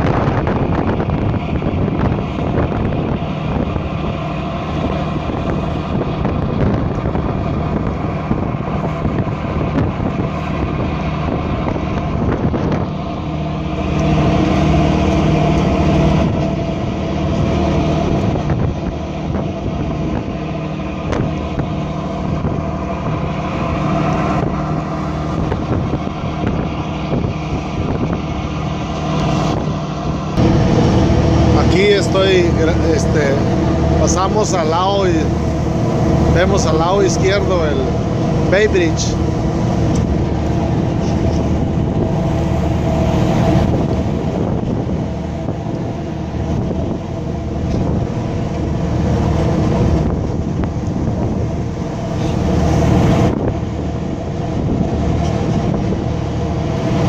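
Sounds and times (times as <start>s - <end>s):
boat engine droning: 0.0s - 57.0s
wind buffeting microphone: 0.0s - 57.0s.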